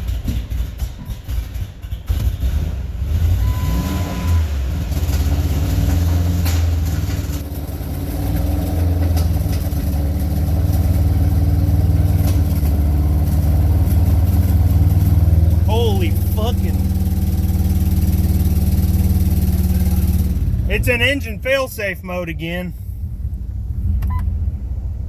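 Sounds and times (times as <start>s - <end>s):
engine running rough: 0.0s - 25.0s.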